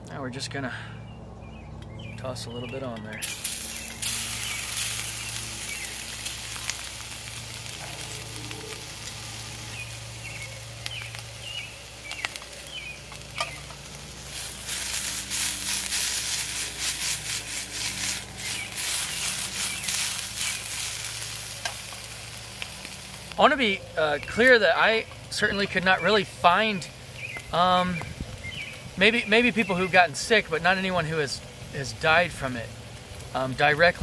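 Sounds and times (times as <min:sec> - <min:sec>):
mushrooms sizzling in oil: 0:03.2 - 0:34.0.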